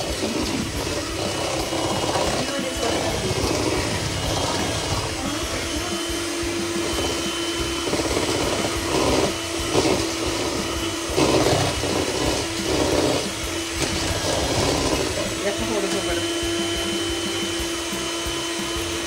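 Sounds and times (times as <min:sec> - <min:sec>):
beaters in a steel bowl: 0:00.0 - 0:19.0
electric hand mixer running: 0:00.0 - 0:19.0.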